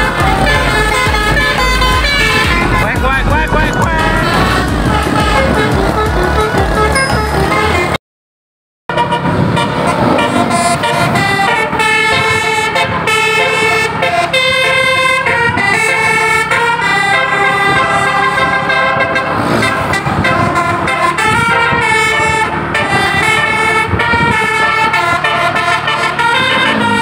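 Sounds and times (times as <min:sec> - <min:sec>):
musical air horn melody: 0:00.0 - 0:08.0, 0:08.9 - 0:27.0.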